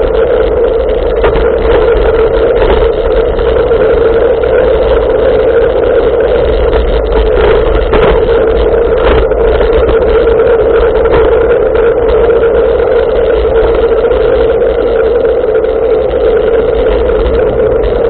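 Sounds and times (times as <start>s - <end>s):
wind and tyre noise rumble: 0.0s - 18.0s.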